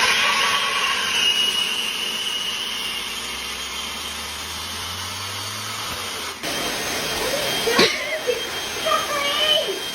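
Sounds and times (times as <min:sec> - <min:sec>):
hair dryer blowing: 0:00.0 - 0:09.9.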